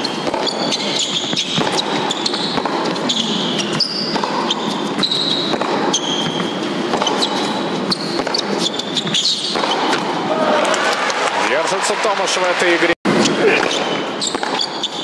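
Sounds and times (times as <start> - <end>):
ball bouncing: 0.0 - 10.9, 13.1 - 15.0
sneaker squeaks: 0.0 - 10.9, 13.1 - 15.0
racket striking ball: 0.1 - 10.9, 13.1 - 15.0.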